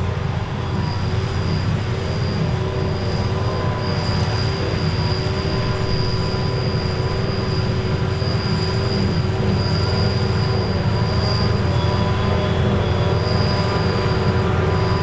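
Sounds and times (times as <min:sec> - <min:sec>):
forage harvester drone and whine: 0:00.0 - 0:15.0.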